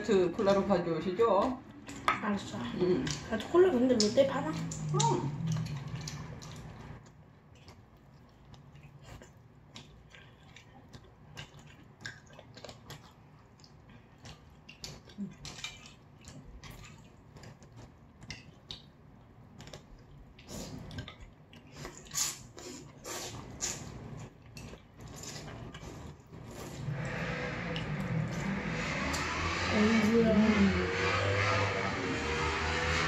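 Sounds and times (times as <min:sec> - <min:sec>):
chewing: 0:01.4 - 0:29.7.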